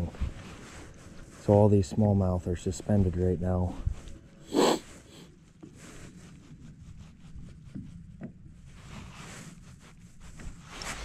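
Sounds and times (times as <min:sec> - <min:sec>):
wind and water noise: 0:00.0 - 0:11.0.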